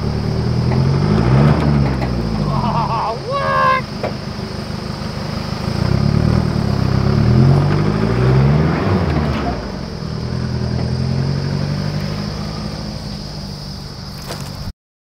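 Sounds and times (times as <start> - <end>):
truck engine revving: 0.0 - 14.7.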